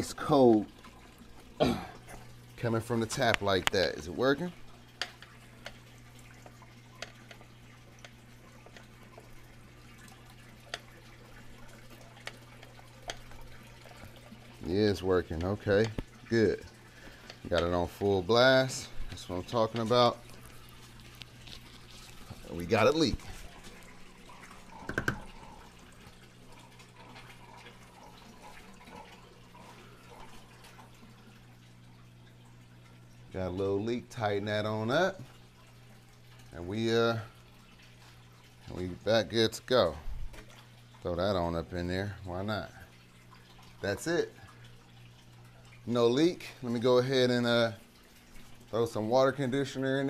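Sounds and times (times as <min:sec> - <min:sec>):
low steady hum: 0:00.0 - 0:50.0
sharp drips: 0:00.0 - 0:50.0
water running into aquarium: 0:00.0 - 0:50.0.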